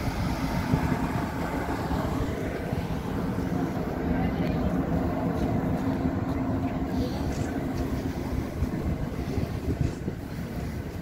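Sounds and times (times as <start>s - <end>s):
droning hum: 0.0s - 11.0s
ship machinery rumbling: 0.0s - 11.0s.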